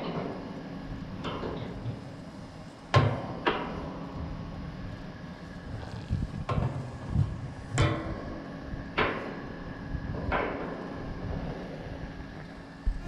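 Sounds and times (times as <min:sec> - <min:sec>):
heat pump low hum: 0:00.0 - 0:13.0.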